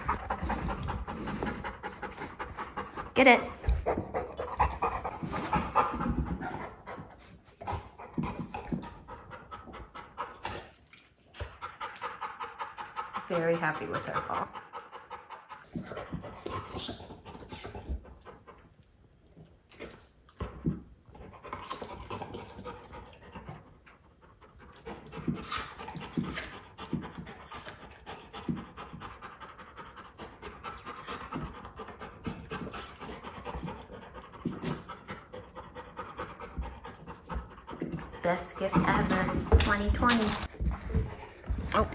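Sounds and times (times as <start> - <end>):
dog panting: 0.0 - 18.9, 19.8 - 41.9.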